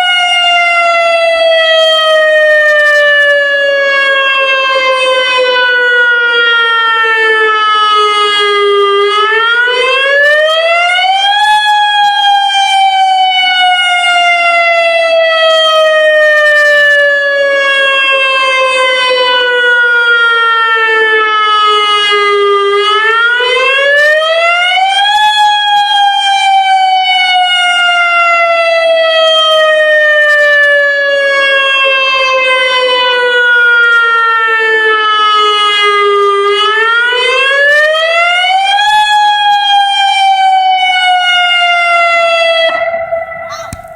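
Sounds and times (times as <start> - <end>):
warning siren wailing: 0.0 - 43.9.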